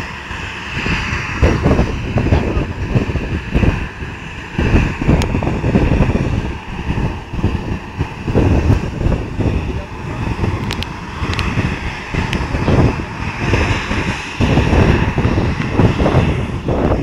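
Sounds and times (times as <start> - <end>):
jet engines whining: 0.0 - 17.0
wind buffeting microphone: 0.0 - 17.0.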